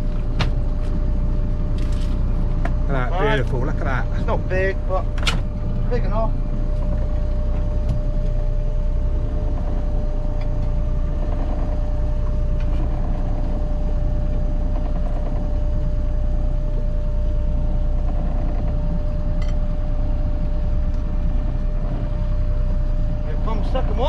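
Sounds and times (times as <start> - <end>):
boat engine rumbling and whining: 0.0 - 24.0.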